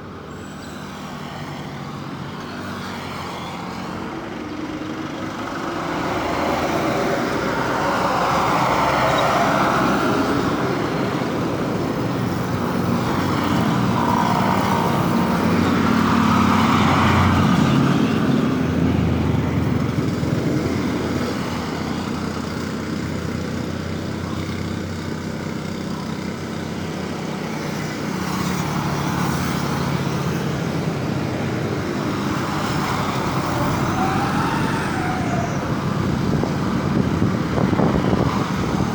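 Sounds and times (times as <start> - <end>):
vehicles driving past: 0.0 - 38.9.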